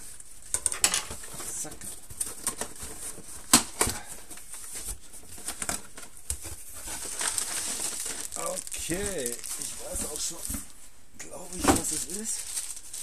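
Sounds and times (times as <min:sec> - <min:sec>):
packing tape crackling: 0:01.5 - 0:10.7, 0:11.5 - 0:13.0.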